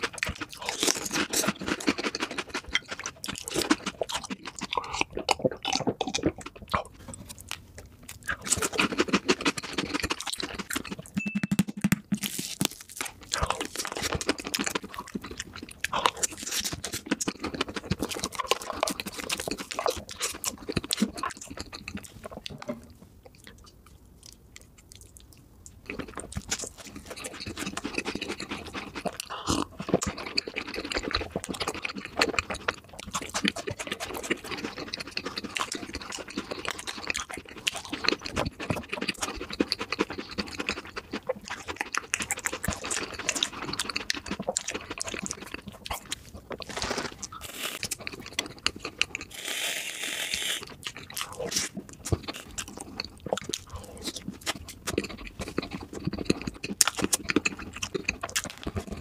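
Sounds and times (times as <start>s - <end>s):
chewing and lip smacks: 0.0s - 11.2s, 11.8s - 49.7s, 50.3s - 59.0s.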